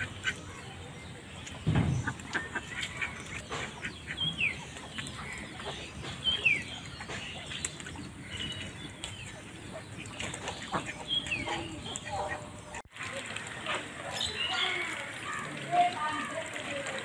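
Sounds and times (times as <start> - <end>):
ducks calling: 0.0 - 16.3
clicks of ducks moving: 0.0 - 17.0.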